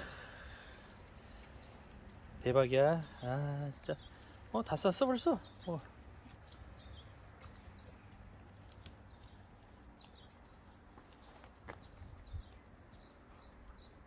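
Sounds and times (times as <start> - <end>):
bird chirps: 0.0 - 14.0
low outdoor rumble: 0.0 - 14.0.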